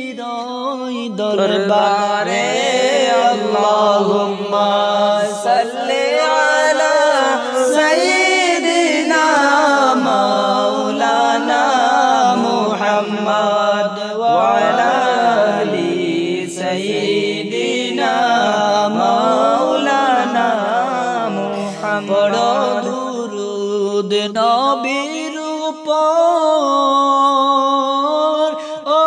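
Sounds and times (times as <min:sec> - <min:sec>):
person chanting unaccompanied: 0:00.0 - 0:29.0.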